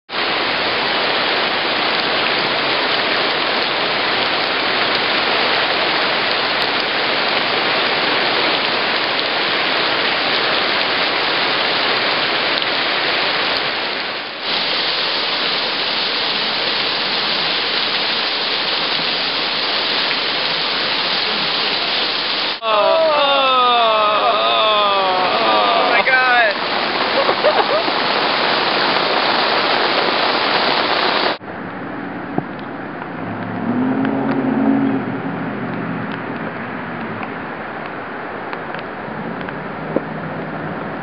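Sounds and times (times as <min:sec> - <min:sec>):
heavy rain on wet grass: 0:00.1 - 0:31.7, 0:32.4 - 0:41.0.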